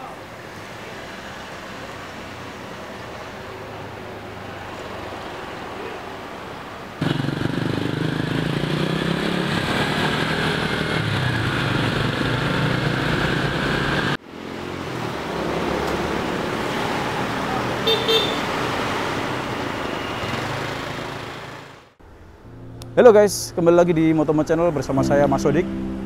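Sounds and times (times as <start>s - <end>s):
car and motorcycle engines: 0.0s - 22.0s
tyre and road noise: 0.0s - 23.2s.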